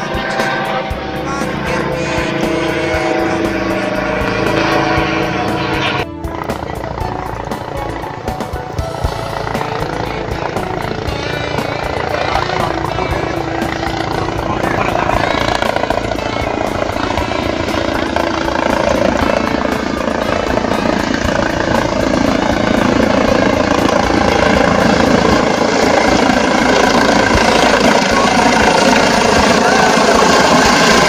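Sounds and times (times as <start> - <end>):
helicopter flying overhead: 0.0 - 31.0.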